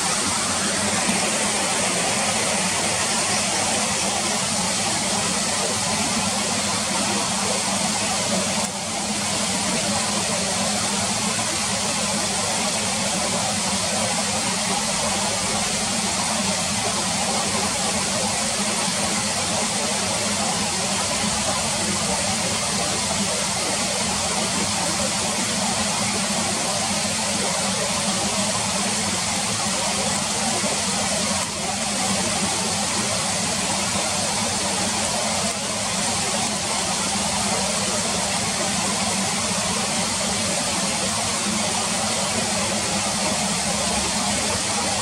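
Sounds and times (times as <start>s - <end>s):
river water flowing over stones: 0.0s - 45.0s.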